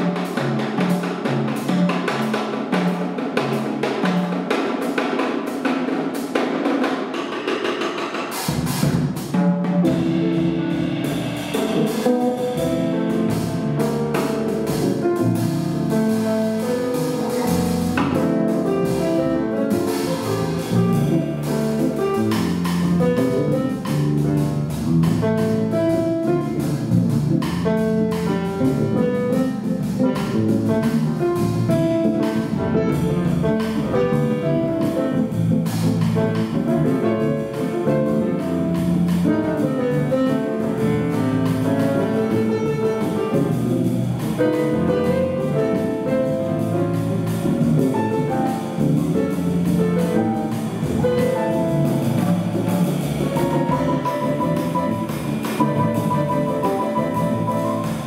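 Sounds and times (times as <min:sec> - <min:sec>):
drum kit: 0:00.0 - 0:58.0
bass line: 0:09.8 - 0:58.0.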